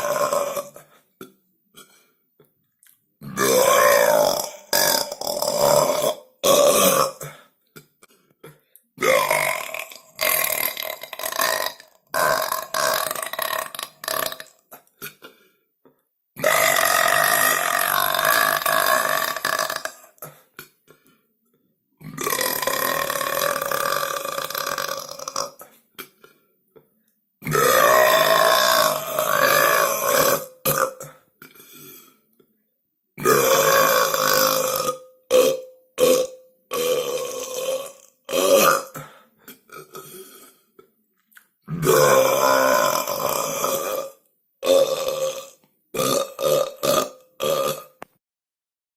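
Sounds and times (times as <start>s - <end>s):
boy burping: 0.0s - 2.0s, 3.2s - 15.4s, 16.4s - 20.8s, 22.0s - 26.4s, 27.4s - 31.6s, 33.2s - 40.7s, 41.6s - 48.1s.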